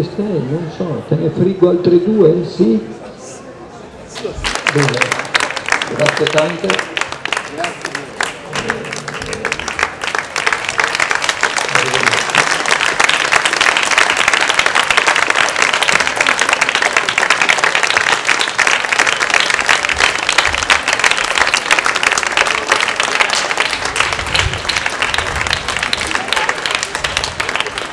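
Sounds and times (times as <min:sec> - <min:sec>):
audience applauding: 0:04.2 - 0:27.9.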